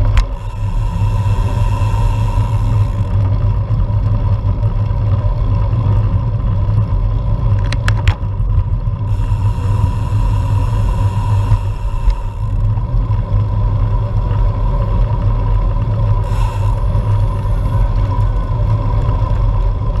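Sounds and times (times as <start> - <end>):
road vibration rumble: 0.0 - 20.0
wind on camera: 0.0 - 20.0.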